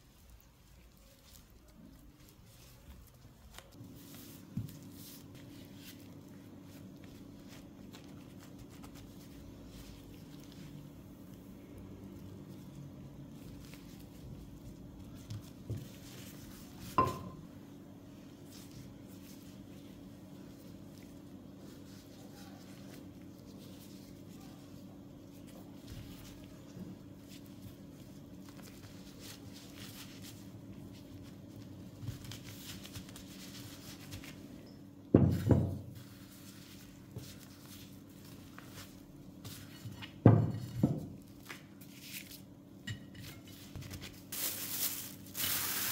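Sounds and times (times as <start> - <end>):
steady low hum: 0.0 - 45.5
dough rustling on mat: 0.0 - 45.9.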